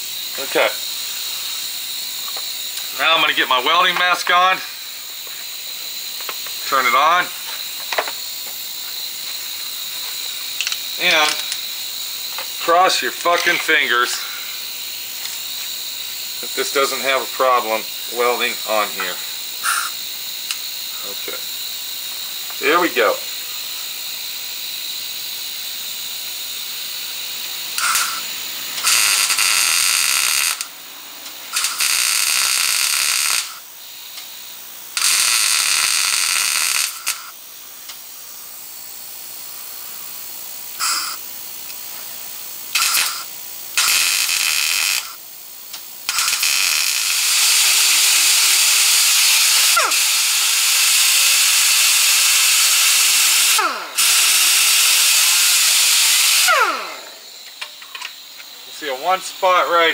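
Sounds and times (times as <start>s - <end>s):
welder crackling and buzzing: 0.0s - 21.8s, 26.1s - 34.2s, 34.9s - 38.0s, 40.2s - 58.1s.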